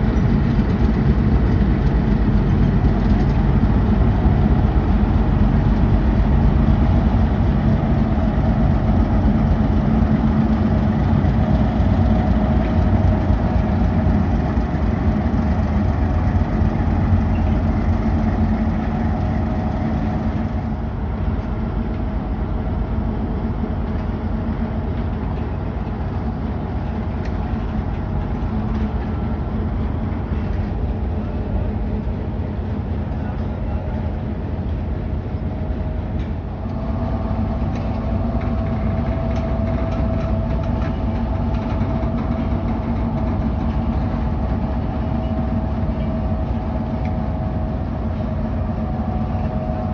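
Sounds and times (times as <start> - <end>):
diesel locomotive engine running: 0.0 - 49.9.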